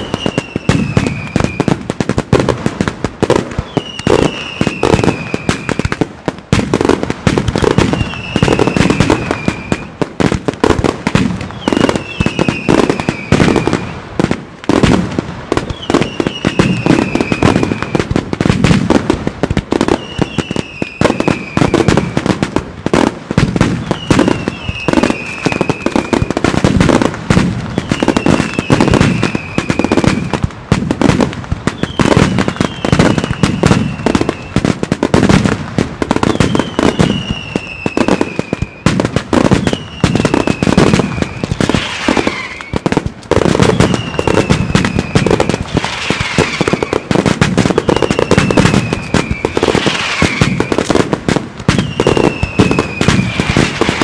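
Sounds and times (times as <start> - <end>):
falling firework whistle: 0.0 - 2.4, 3.3 - 6.0, 6.6 - 10.3, 11.1 - 14.0, 14.7 - 18.9, 19.7 - 30.4, 31.0 - 54.0
firecrackers banging: 0.0 - 54.0.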